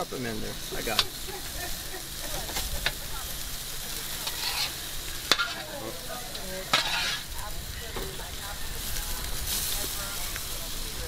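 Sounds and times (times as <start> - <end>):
chicken sizzling on grill: 0.0 - 11.0.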